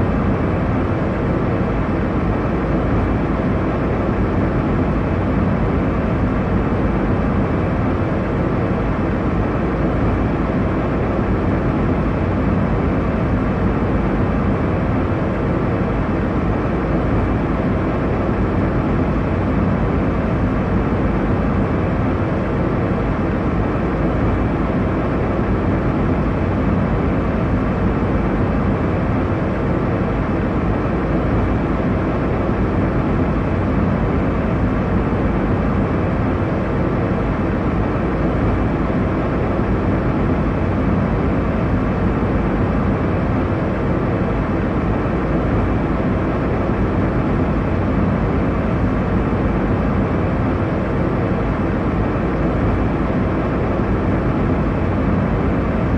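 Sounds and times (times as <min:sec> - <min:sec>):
airliner cabin drone: 0:00.0 - 0:55.9.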